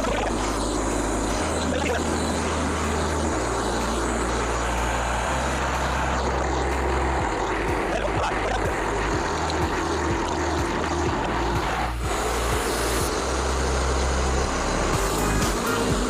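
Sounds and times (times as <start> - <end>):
low notes changing pitch: 0.0 - 16.0
sawmill engine running: 0.0 - 16.0.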